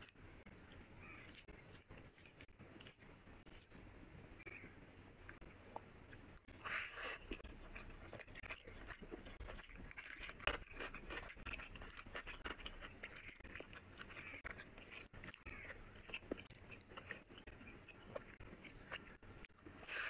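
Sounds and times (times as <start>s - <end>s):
chewing food: 0.0s - 20.0s
small crunches: 0.0s - 20.0s.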